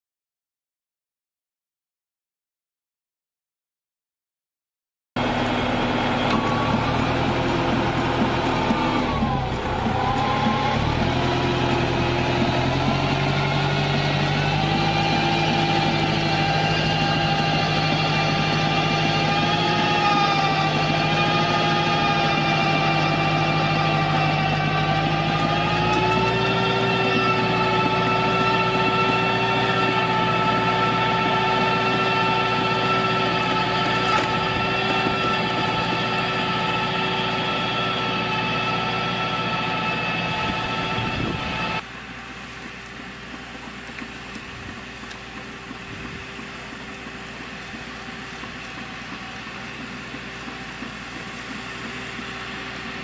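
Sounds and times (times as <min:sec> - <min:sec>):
tractor pruning machine running: 0:05.2 - 0:53.0.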